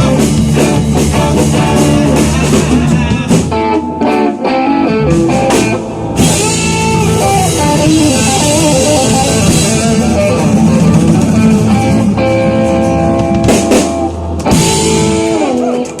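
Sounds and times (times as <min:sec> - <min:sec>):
instrumental rock band playing: 0:00.0 - 0:16.0.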